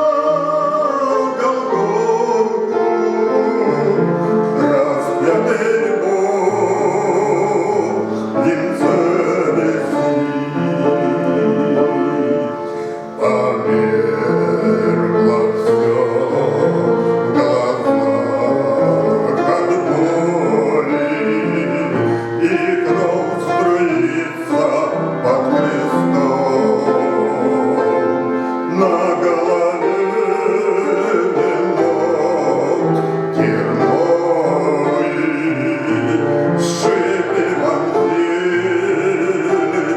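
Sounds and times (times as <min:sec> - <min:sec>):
instrumental accompaniment: 0:00.0 - 0:39.9
man singing a hymn: 0:00.0 - 0:39.9.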